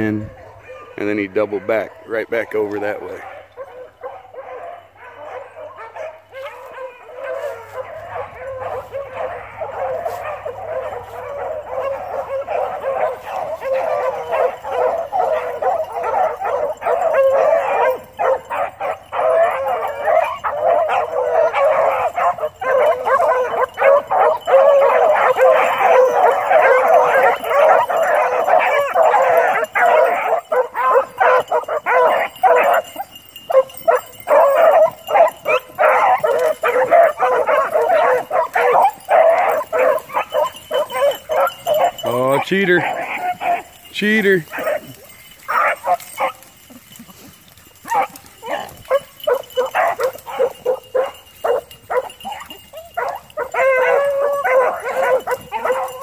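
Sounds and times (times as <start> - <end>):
dogs baying and yelping: 0.0 - 56.0.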